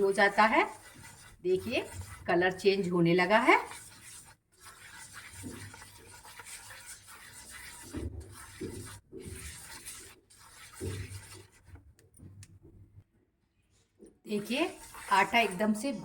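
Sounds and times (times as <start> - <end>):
flour stirred and scraped in pan: 0.0 - 12.0, 14.3 - 16.0.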